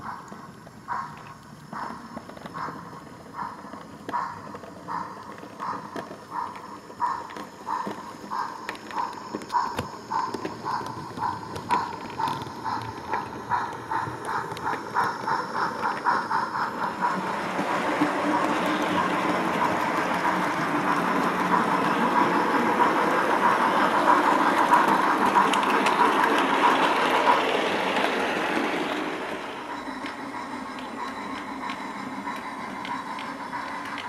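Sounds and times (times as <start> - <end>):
recorded steam locomotive chuffing: 0.0 - 34.0.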